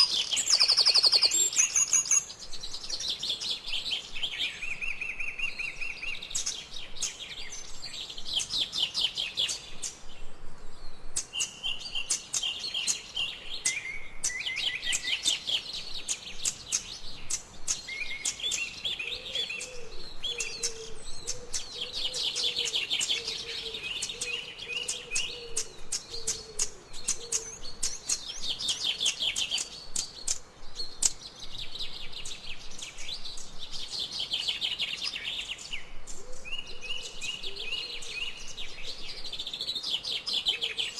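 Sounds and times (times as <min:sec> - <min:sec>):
birds chirping trills: 0:00.0 - 0:40.9.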